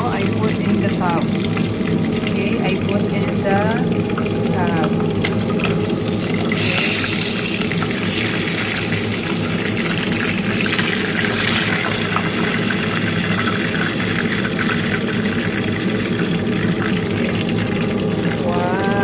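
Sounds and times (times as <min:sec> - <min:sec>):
low steady hum: 0:00.0 - 0:19.0
oil sizzling in a frying pan: 0:00.0 - 0:19.0.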